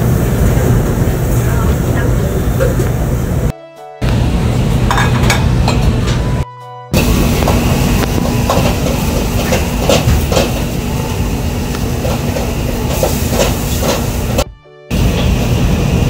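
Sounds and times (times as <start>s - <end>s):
gas range and extractor rushing: 0.0s - 6.4s, 7.0s - 16.0s.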